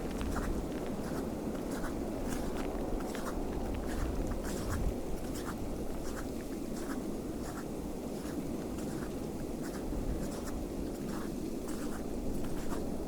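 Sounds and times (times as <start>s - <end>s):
low rush of wind: 0.0s - 13.0s.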